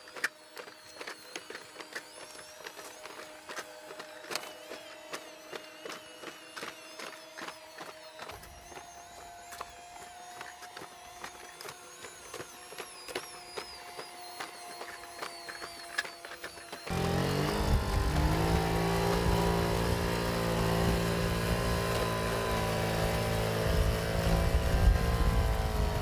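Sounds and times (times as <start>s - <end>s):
robot hydraulic pump whine: 0.0s - 26.0s.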